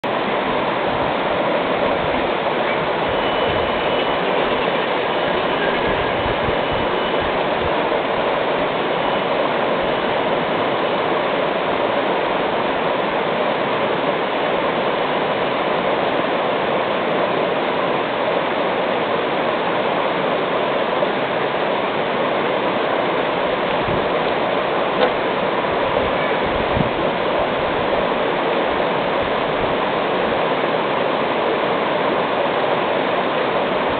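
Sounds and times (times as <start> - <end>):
water rushing over rocks: 0.0 - 33.9.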